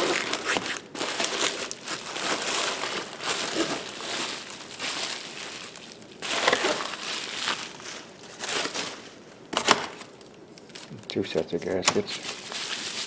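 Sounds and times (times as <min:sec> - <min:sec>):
bubble wrap crinkling: 0:00.0 - 0:11.0, 0:12.0 - 0:13.0.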